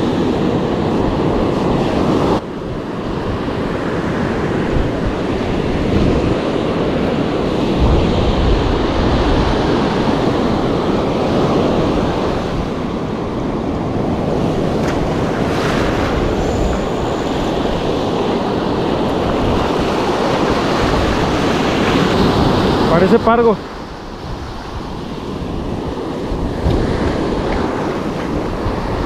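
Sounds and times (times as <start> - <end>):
surf washing up a beach: 0.0 - 29.0
wind buffeting microphone: 0.0 - 29.0.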